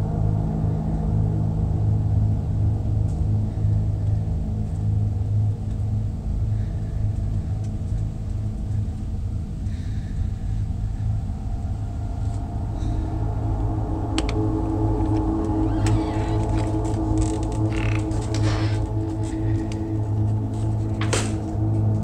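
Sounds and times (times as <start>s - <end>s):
ominous low drone music: 0.0s - 22.0s.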